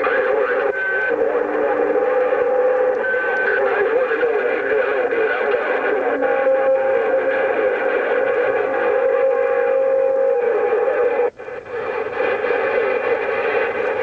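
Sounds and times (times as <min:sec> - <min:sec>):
garbled radio voices talking: 0:00.0 - 0:14.0
steady radio whistles: 0:00.0 - 0:14.0.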